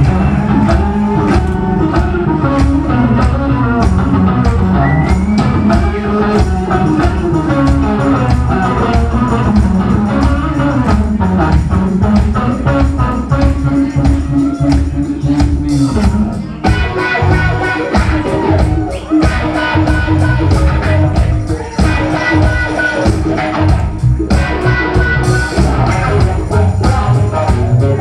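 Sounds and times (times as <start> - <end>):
bass guitar: 0.0 - 28.0
electric guitar: 0.0 - 28.0.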